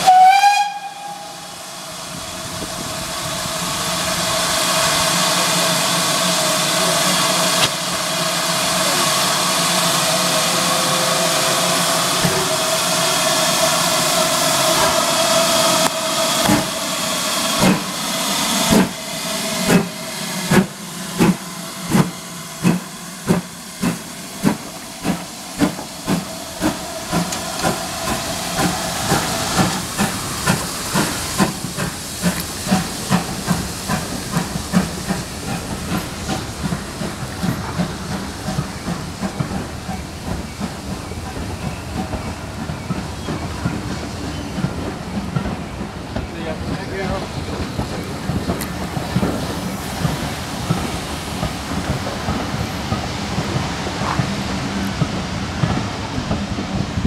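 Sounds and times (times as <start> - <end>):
steam hissing: 0.0 - 57.0
steam locomotive exhaust chuffs: 0.0 - 57.0
train coaches rolling: 0.0 - 57.0.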